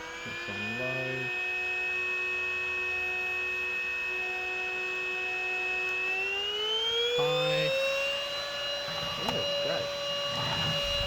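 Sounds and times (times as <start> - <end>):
cordless vacuum cleaner motor whine: 0.0 - 11.0.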